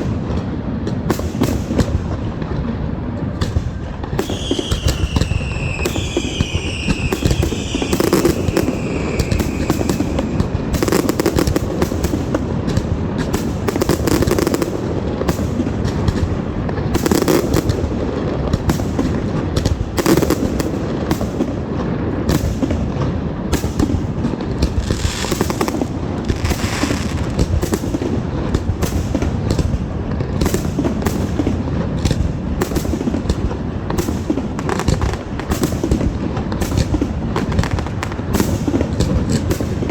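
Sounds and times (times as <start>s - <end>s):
fireworks booming and crackling: 0.0s - 39.9s
fireworks whistling: 3.2s - 39.9s.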